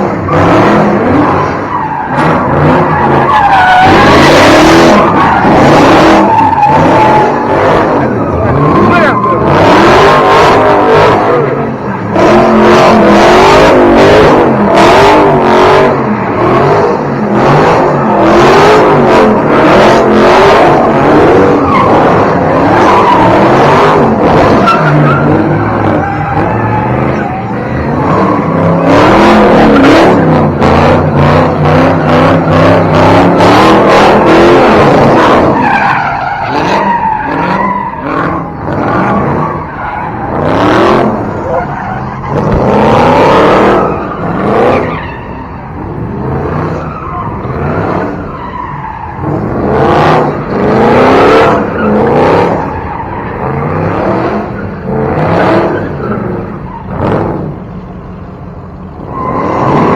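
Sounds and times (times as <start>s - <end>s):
car engine revving: 0.0s - 59.9s
tire squeal: 0.0s - 59.9s.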